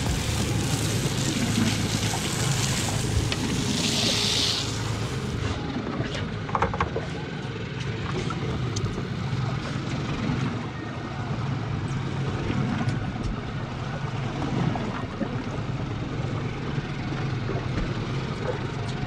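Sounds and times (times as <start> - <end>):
outboard motors idling: 0.0 - 19.0.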